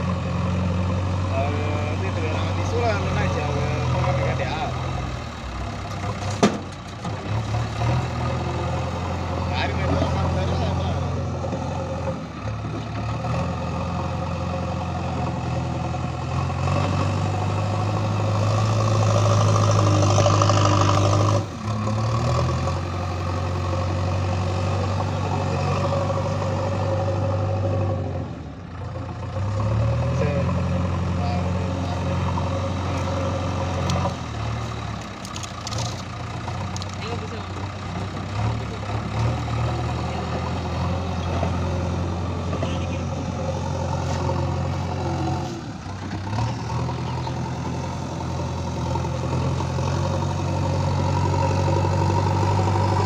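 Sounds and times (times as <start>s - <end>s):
diesel engine running under load: 0.0s - 53.0s.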